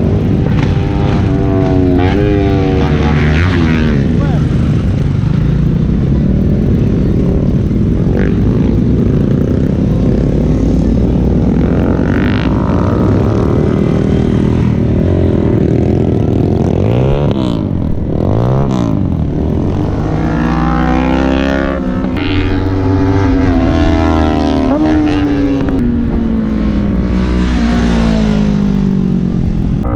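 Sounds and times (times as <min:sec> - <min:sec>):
motorcycle engines racing: 0:00.0 - 0:29.9.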